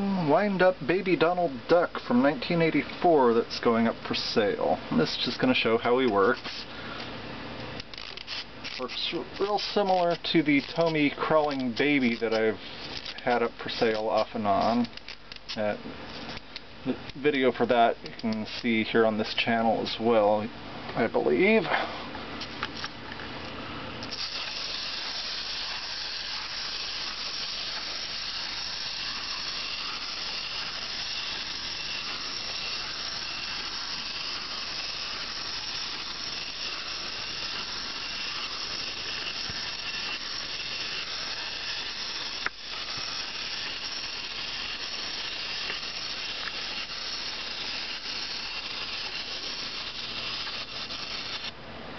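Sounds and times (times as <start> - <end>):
wind-up toy motor whirring: 0.0 - 7.0, 7.6 - 19.5, 24.0 - 51.6.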